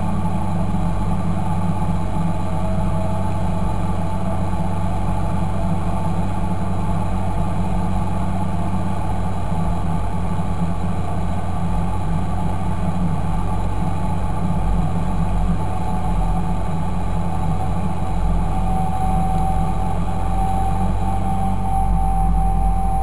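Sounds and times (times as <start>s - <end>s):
thin steady whine: 0.0s - 23.0s
tractor diesel engine running: 0.0s - 23.0s.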